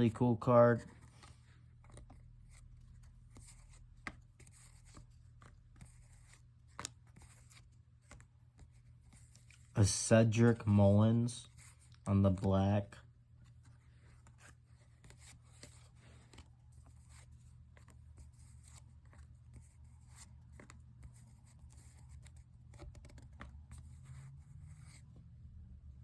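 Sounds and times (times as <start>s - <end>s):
trading cards being handled: 0.0s - 25.4s.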